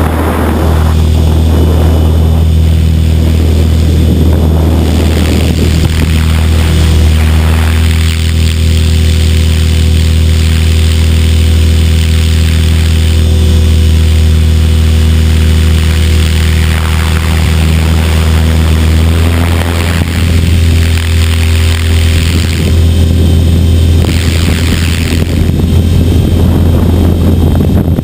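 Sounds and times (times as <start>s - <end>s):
rc helicopter rotor drone and whine: 0.0s - 28.0s.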